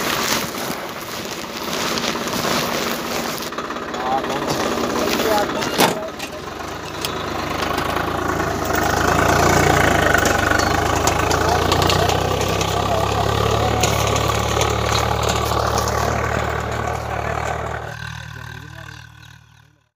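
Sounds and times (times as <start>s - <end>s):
tractor diesel engine: 0.0s - 20.0s.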